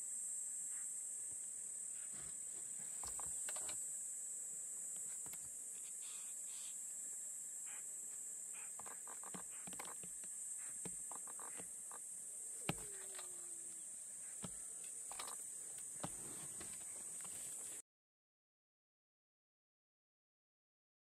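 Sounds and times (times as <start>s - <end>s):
high-pitched insect chorus: 0.0s - 17.8s.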